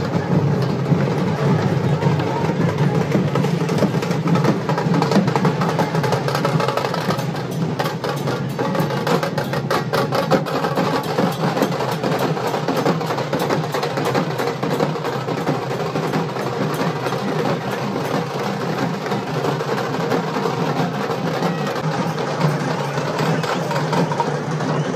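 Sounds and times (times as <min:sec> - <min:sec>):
drums beaten fast: 0:00.0 - 0:24.9.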